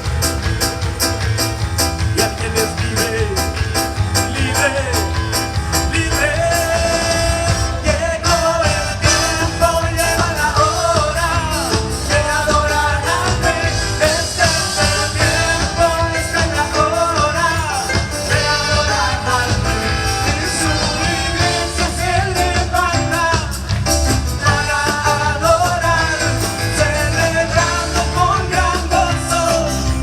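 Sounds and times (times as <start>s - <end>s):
bass: 0.0s - 30.0s
fast drum beat: 0.0s - 30.0s
live band playing latin music: 0.0s - 30.0s.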